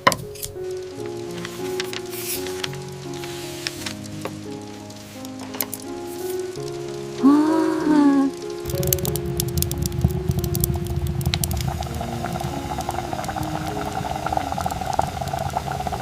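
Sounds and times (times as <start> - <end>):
crackling pops: 0.0 - 16.0
food sizzling and bubbling: 0.0 - 16.0.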